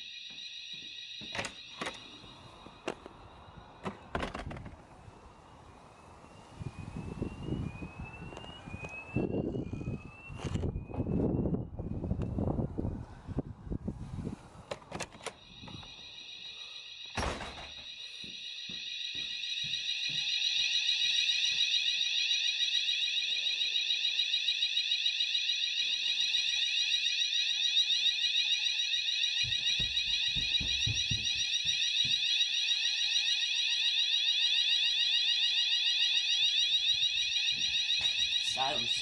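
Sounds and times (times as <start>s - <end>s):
fire alarm warbling tone: 0.0s - 14.3s, 15.2s - 39.0s.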